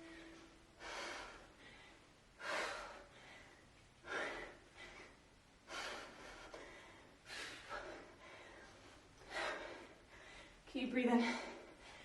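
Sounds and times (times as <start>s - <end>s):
woman breathing hard: 0.0s - 12.0s.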